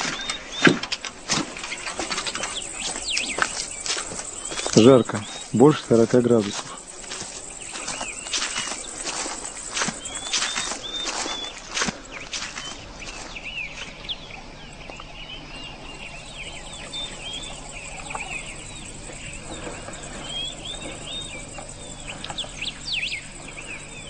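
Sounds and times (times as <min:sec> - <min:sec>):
high insect hiss: 0:00.0 - 0:24.0
small birds chirping: 0:00.0 - 0:24.0.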